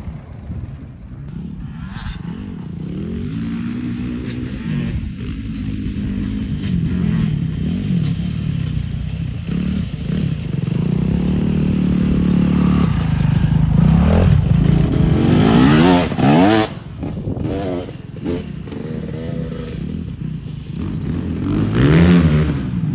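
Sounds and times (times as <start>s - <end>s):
motocross bike engine revving: 0.0s - 22.9s.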